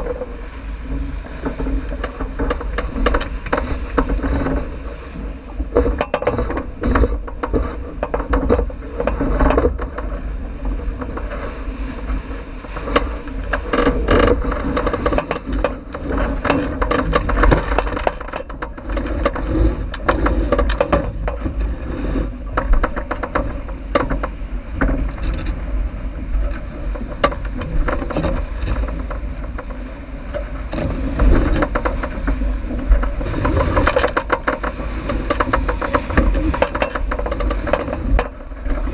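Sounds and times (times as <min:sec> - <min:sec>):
boat knocks and rattles: 0:00.0 - 0:38.9
water rushing along hull: 0:00.0 - 0:38.9
wind buffeting microphone: 0:00.0 - 0:38.9.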